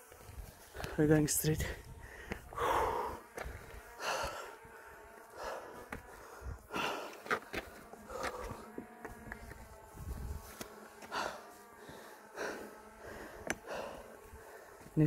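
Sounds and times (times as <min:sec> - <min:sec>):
man breathing heavily: 0:00.0 - 0:15.0.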